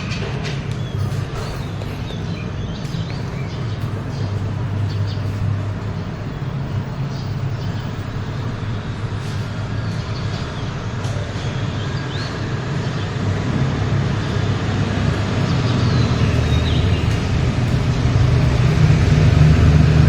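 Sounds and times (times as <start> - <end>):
motor vehicle rumble: 0.0 - 20.0
road noise: 0.0 - 20.0.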